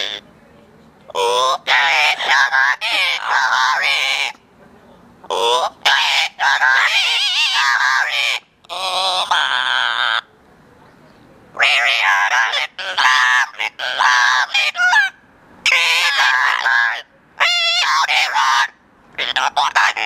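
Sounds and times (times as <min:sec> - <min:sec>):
parrots squawking: 0:00.0 - 0:00.2, 0:01.1 - 0:04.4, 0:05.2 - 0:10.3, 0:11.5 - 0:20.0.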